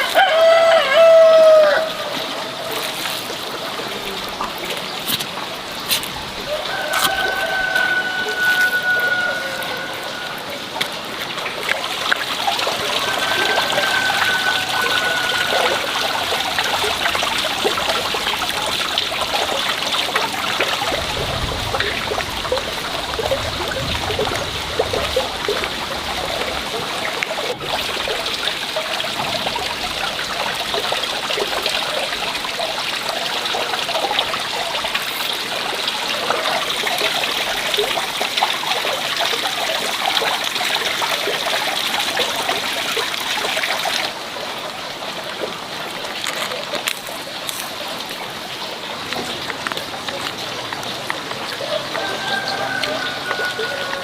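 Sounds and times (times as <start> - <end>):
water running and trickling: 0.0 - 54.0.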